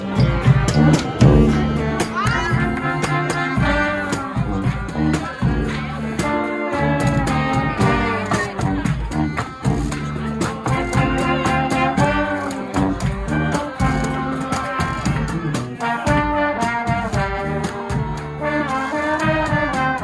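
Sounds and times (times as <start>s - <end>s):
brass band playing swinging tune: 0.0s - 20.0s
steady drumbeat: 0.0s - 20.0s.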